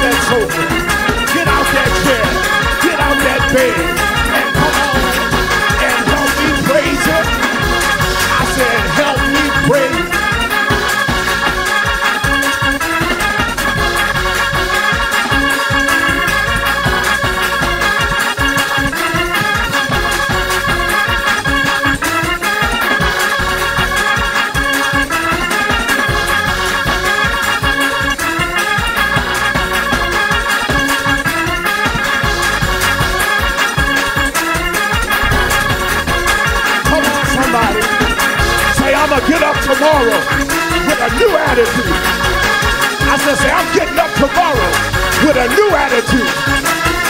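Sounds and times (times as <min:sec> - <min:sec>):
organ playing upbeat praise music: 0:00.0 - 0:47.0.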